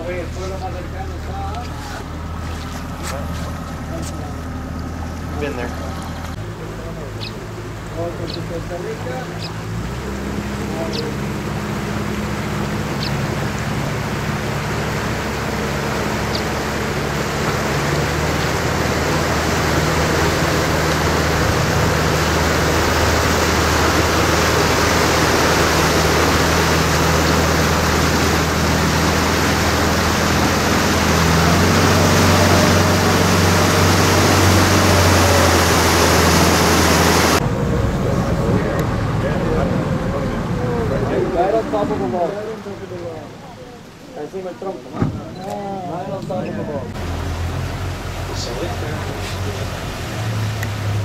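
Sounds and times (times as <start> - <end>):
boat engine humming: 0.0 - 51.0
water rushing along hull: 0.0 - 51.0.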